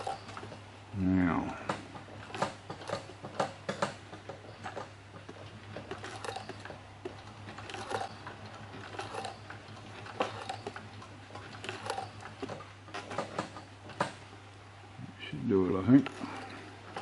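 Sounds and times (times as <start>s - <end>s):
sewing machine stitching leather: 0.0s - 14.3s, 15.6s - 17.0s.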